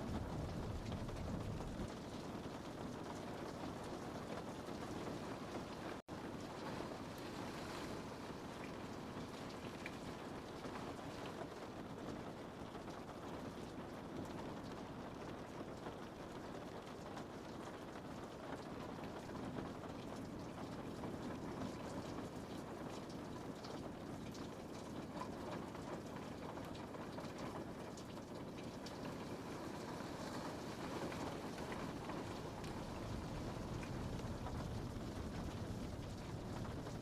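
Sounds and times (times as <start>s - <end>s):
rain pattering on a window: 0.0s - 37.0s.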